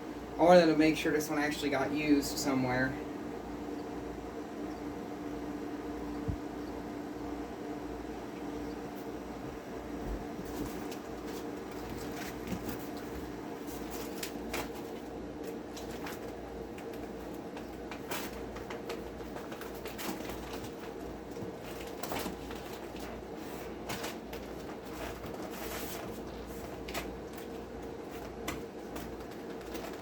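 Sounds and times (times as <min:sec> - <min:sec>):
air conditioner humming: 0:00.0 - 0:30.0.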